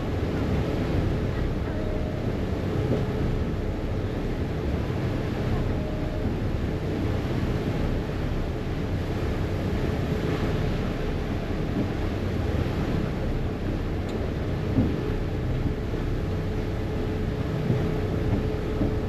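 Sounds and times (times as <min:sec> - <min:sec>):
ferry engine droning: 0:00.0 - 0:19.0
water rushing past hull: 0:00.0 - 0:19.0.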